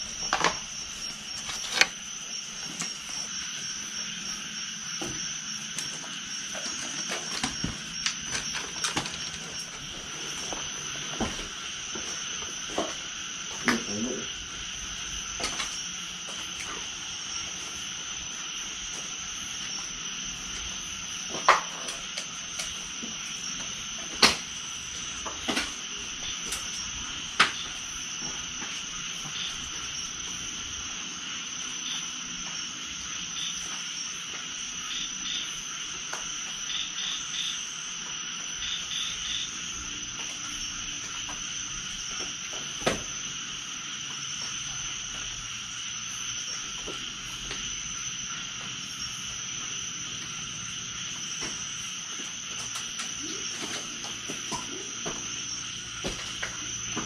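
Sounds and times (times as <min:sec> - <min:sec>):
crickets shrilling: 0:00.0 - 0:57.0.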